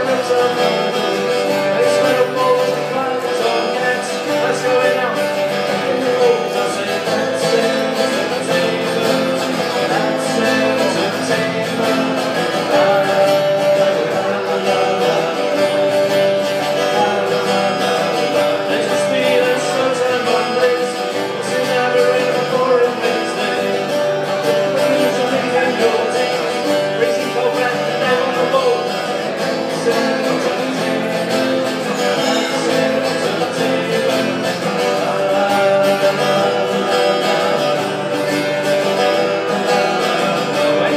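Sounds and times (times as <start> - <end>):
acoustic guitar duet: 0.0 - 40.9.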